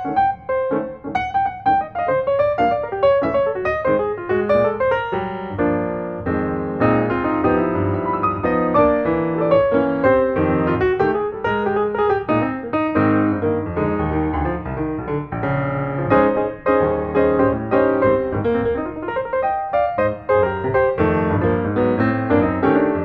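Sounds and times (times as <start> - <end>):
background piano music: 0.0 - 23.0.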